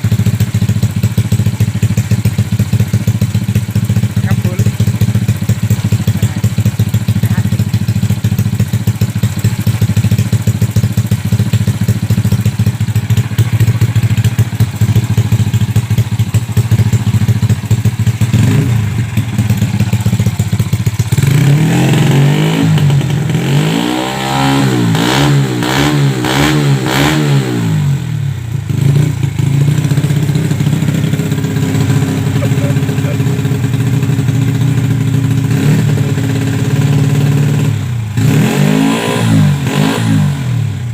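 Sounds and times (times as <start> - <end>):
small engine idling and revving: 0.0 - 40.9.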